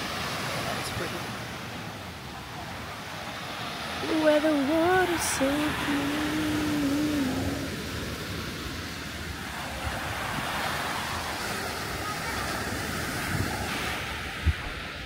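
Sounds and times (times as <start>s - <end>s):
ocean surf breaking on sand: 0.0s - 15.0s.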